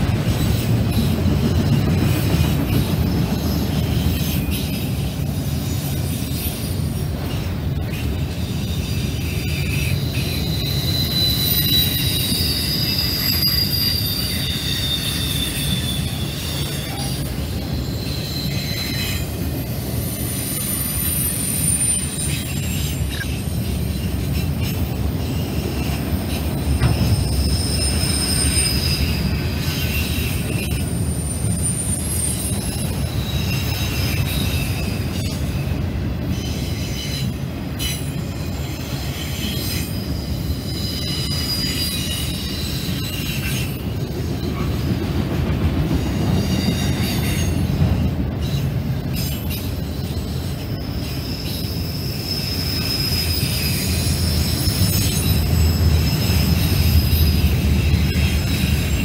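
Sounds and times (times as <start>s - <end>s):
steel wheels rumbling on rail: 0.0s - 59.0s
high-pitched wheel squeals: 0.3s - 44.9s, 45.9s - 59.0s.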